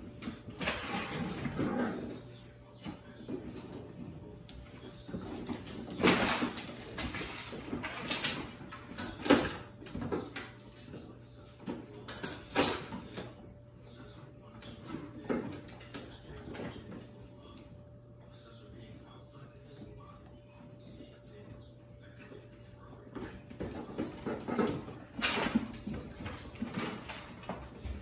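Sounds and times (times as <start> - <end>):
puppies scuffling and playing: 0.0 - 28.0.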